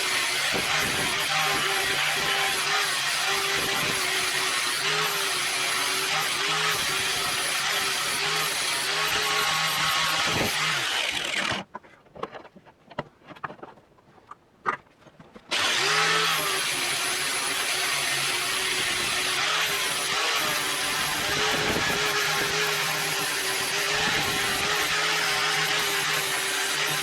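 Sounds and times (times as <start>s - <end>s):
electric power tool running: 0.0s - 11.6s, 15.5s - 27.0s.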